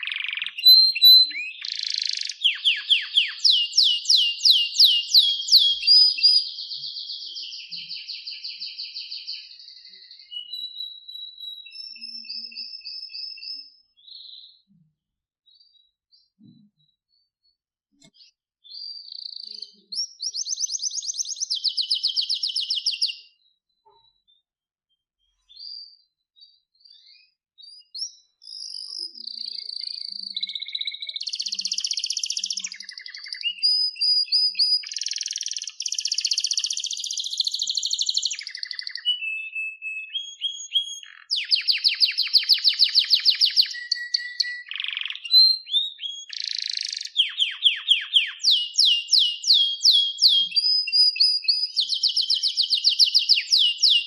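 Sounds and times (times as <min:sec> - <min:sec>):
canary singing trills: 0:00.0 - 0:14.8, 0:18.0 - 0:24.5, 0:25.2 - 0:54.0.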